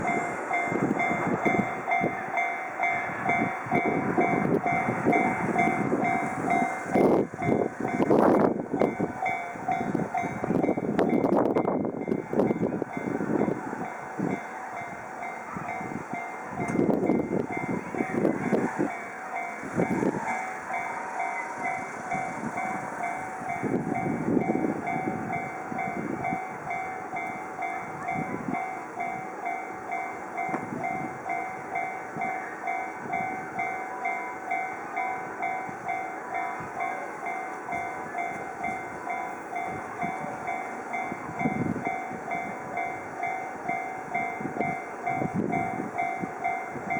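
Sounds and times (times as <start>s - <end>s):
level-crossing bell ringing: 0.0s - 46.9s
railcar rumbling and wheel thumps: 0.0s - 46.9s.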